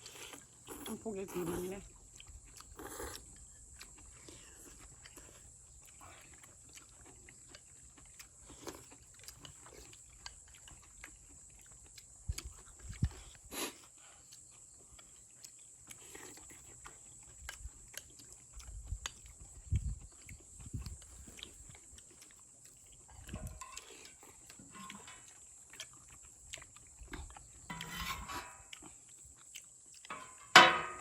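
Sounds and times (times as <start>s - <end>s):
people chewing: 0.0s - 31.0s.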